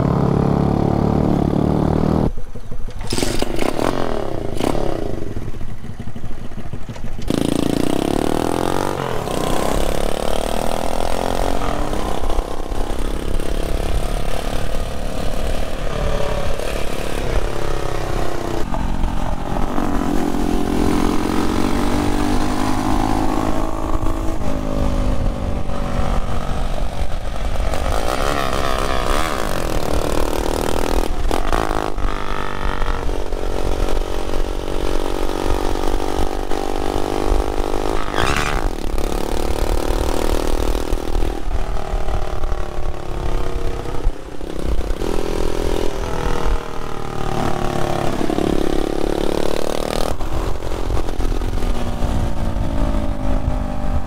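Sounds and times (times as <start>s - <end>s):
minibike engine revving: 0.0s - 54.0s.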